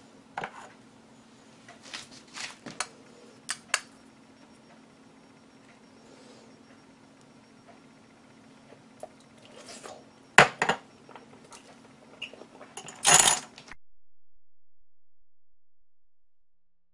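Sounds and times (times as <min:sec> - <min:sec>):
low steady hum: 0:00.0 - 0:13.8.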